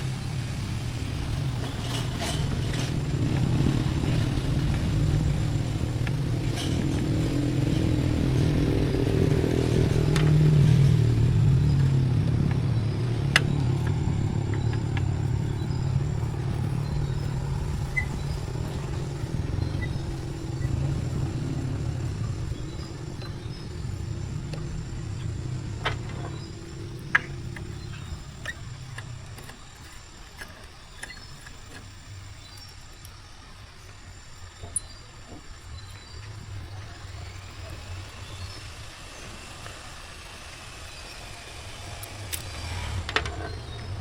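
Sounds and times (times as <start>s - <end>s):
vehicle engine running: 0.0s - 44.0s.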